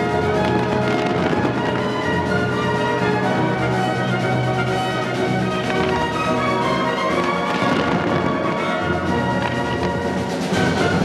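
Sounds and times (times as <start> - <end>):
orchestral music over loudspeakers: 0.0 - 11.0.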